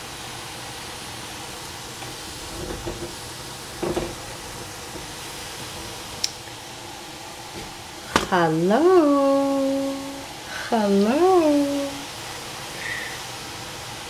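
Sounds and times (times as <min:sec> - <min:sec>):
steady hiss from pot on stove: 0:00.0 - 0:14.0.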